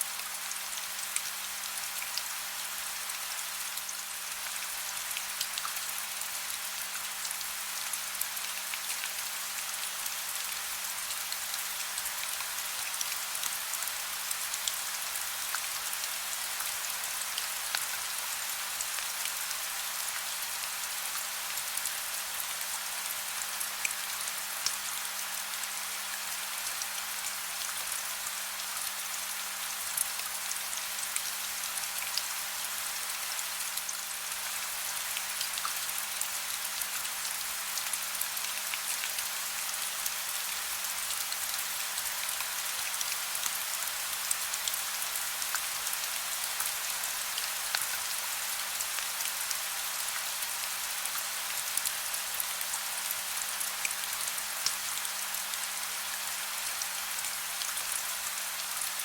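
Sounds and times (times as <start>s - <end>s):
soft rain hiss: 0.0s - 59.0s.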